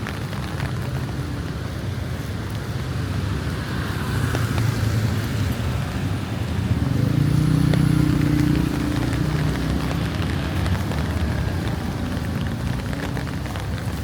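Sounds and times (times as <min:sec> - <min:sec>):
rain falling on street: 0:00.0 - 0:14.0
vehicle engine humming: 0:00.0 - 0:14.0.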